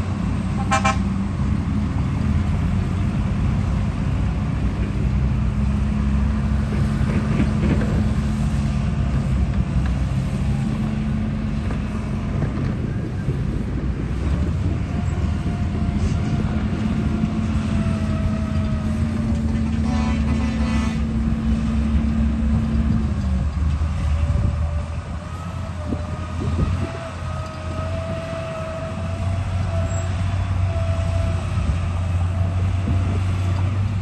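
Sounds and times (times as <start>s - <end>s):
low engine drone: 0.0s - 34.0s.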